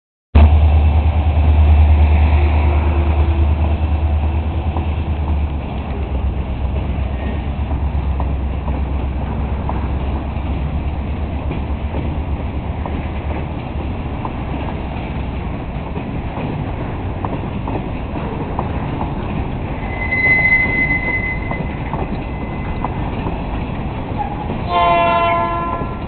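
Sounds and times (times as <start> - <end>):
diesel locomotive engine rumbling: 0.4 - 26.0.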